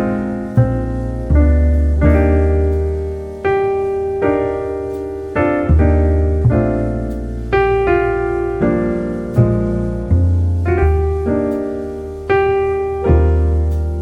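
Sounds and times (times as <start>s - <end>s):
held piano bass notes: 0.0s - 14.0s
slow piano chords: 0.0s - 14.0s.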